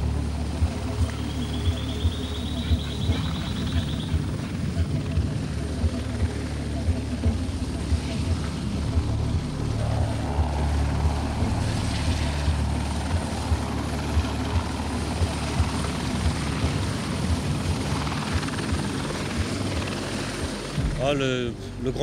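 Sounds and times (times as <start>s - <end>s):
helicopter hovering: 0.0s - 22.0s.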